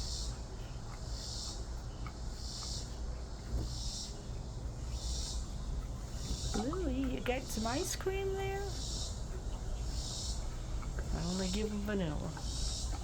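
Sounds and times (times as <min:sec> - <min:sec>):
insects chirping: 0:00.0 - 0:13.0
low steady rumble: 0:00.0 - 0:13.0.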